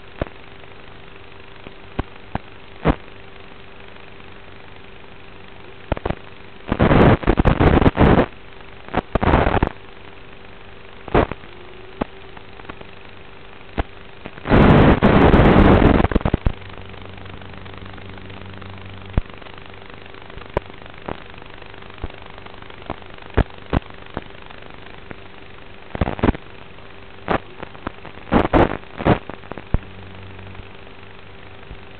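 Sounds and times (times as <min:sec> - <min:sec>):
bursts of harsh static: 0:00.0 - 0:31.9
faint hum: 0:00.0 - 0:31.9.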